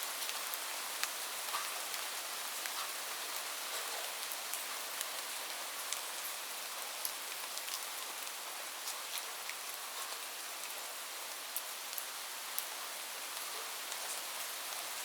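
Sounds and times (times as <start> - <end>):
steady rain hiss: 0.0 - 15.0
raindrops ticking on a surface: 0.1 - 15.0.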